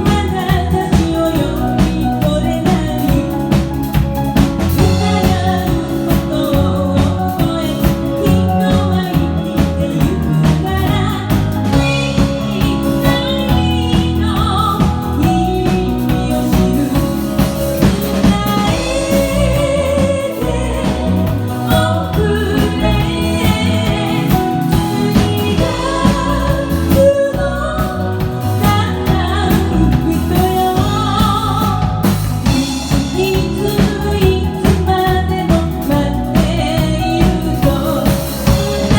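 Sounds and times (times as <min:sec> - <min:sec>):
woman singing pop song with band: 0:00.0 - 0:38.9.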